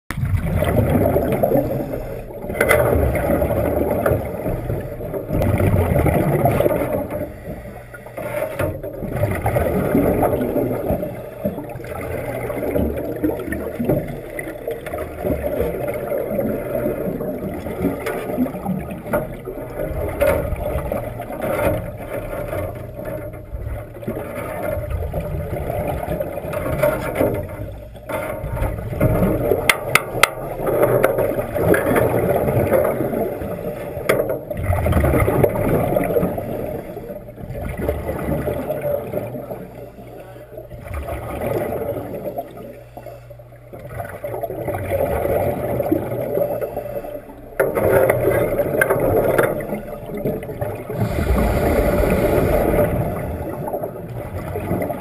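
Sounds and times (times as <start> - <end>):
underwater bubbling and rumble: 0.1 - 55.0.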